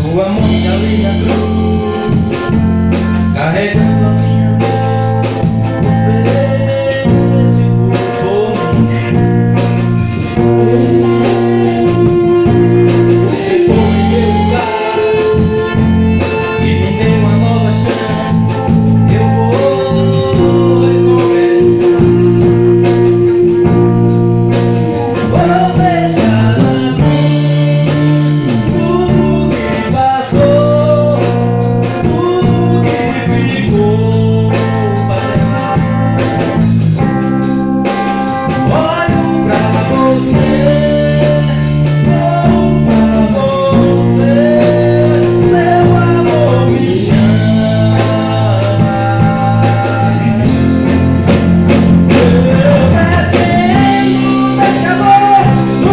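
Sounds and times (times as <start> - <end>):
band playing gospel song: 0.0 - 55.9.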